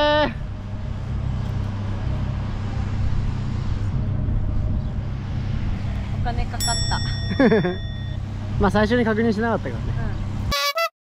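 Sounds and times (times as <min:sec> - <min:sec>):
car engine rumbling: 0:00.0 - 0:10.5.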